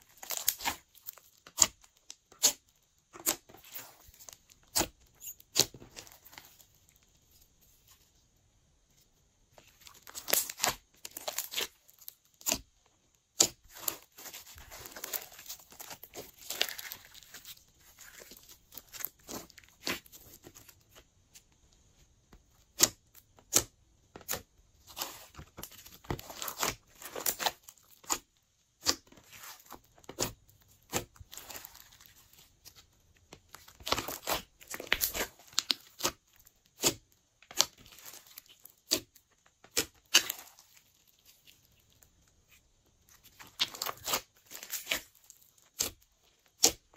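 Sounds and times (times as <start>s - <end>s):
slime squishing by hand: 0.0s - 8.4s, 9.0s - 46.9s.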